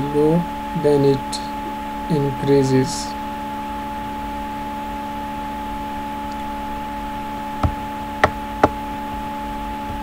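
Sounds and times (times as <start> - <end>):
steady hum of fixed tones: 0.0 - 10.0.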